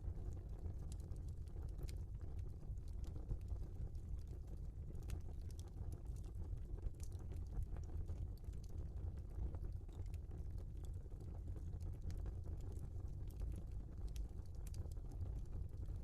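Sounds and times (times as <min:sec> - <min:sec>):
logs crackling and popping: 0:00.3 - 0:16.0.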